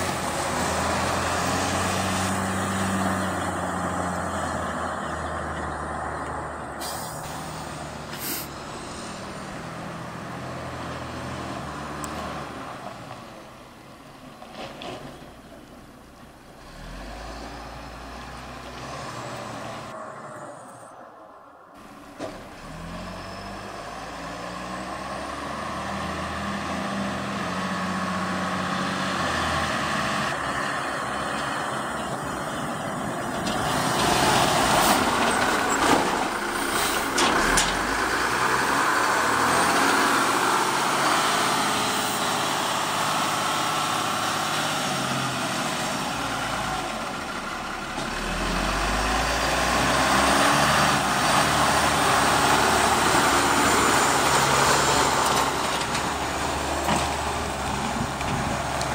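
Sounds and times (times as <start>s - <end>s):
diesel truck engine driving: 0.0s - 58.9s.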